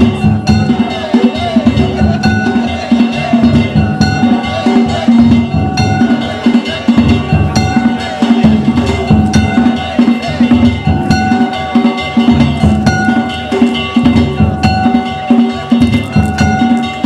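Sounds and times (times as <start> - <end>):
taiko drums: 0.0 - 17.0.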